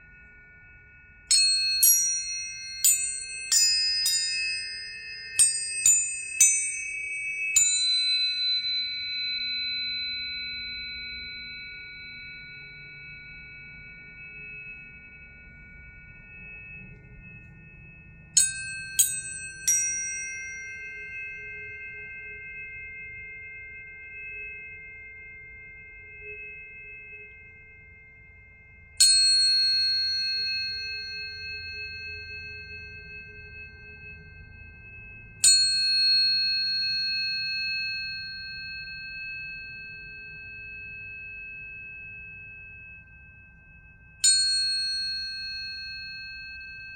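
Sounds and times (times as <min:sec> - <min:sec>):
tuning forks ringing: 0:00.0 - 0:46.9.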